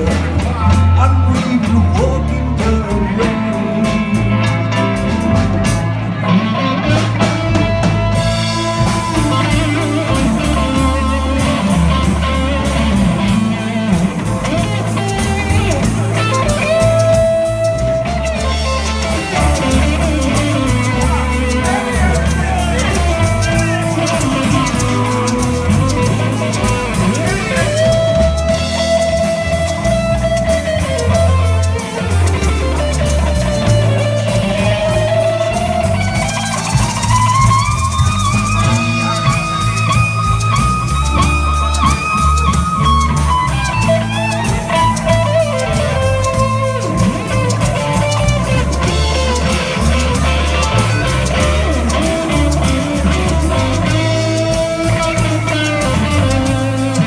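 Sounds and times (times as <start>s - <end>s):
bass and drums: 0.0s - 57.0s
electric guitar lead: 0.0s - 57.0s.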